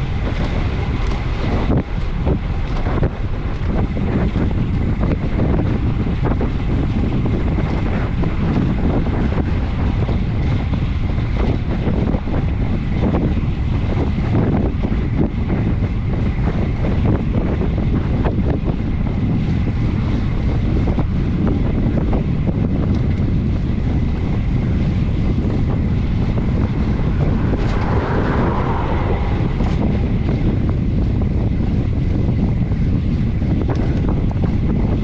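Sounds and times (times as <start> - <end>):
rattles and knocks from road: 0.0 - 35.0
wind buffeting microphone: 0.0 - 35.0.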